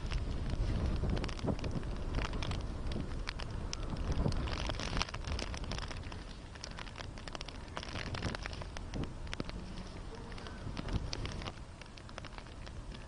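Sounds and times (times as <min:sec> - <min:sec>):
raindrops tapping: 0:00.0 - 0:13.0
wind rumbling on microphone: 0:00.0 - 0:13.0.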